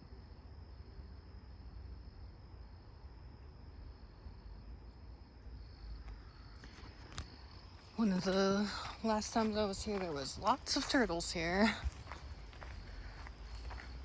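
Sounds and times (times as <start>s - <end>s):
insects trilling: 0.2s - 14.0s.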